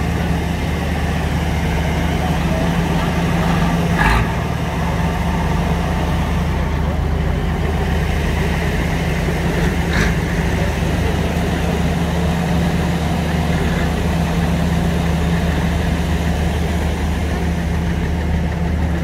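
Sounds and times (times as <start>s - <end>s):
lorry engine running low: 0.0s - 19.0s.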